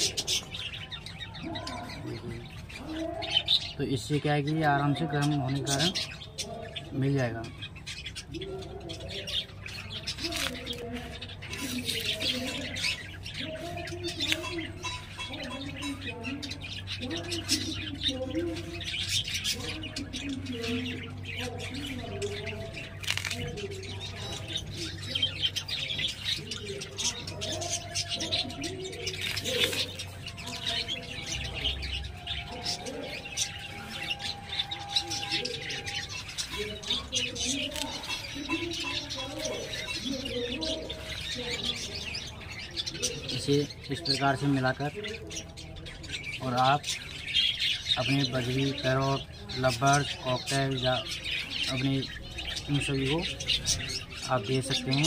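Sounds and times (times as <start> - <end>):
birds chirping: 0.0 - 55.0
budgerigars chattering: 0.0 - 55.0.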